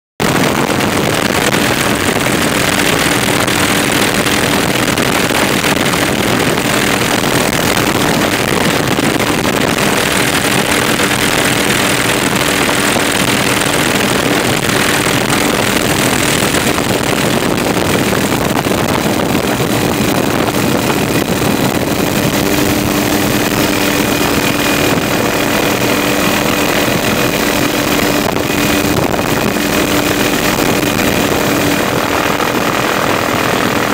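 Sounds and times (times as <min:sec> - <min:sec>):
helicopter engine and rotor drone: 0:00.2 - 0:33.9.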